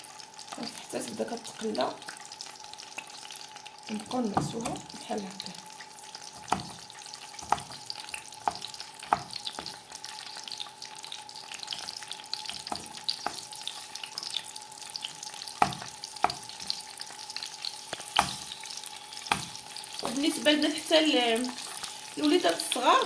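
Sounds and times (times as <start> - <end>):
garlic sizzling in oil: 0.0 - 23.0.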